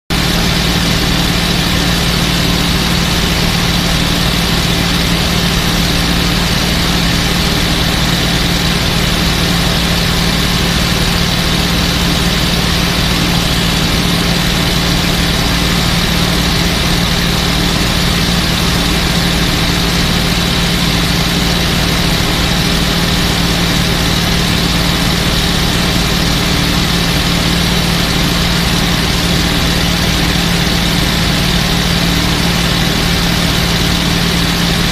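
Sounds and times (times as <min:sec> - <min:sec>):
piston aircraft engine running: 0:00.1 - 0:34.9.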